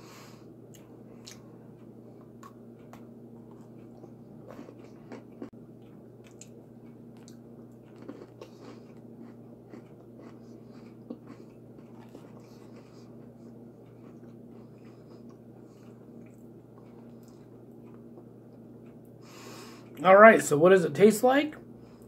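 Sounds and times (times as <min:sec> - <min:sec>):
low steady hum: 0:00.0 - 0:22.0
person chewing cookie: 0:00.7 - 0:19.2.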